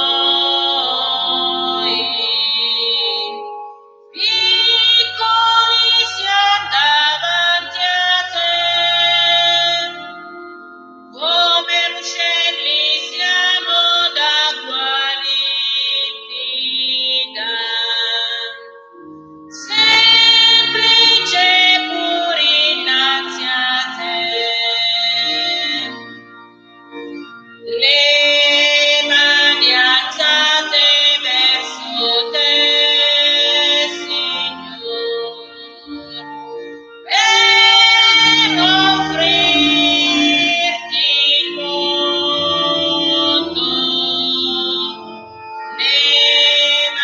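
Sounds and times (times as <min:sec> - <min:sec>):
woman singing a hymn: 0:00.0 - 0:03.5, 0:04.2 - 0:10.2, 0:11.2 - 0:18.7, 0:19.5 - 0:26.0, 0:27.7 - 0:45.2, 0:45.8 - 0:47.0
organ-like keyboard notes: 0:00.0 - 0:47.0.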